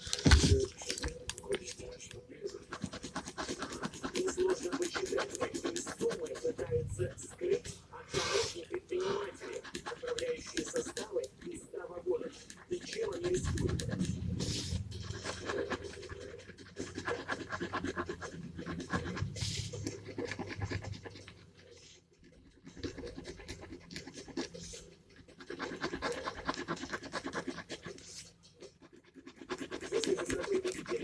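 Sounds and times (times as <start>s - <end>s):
gel pen scratching on paper: 0.0s - 31.0s.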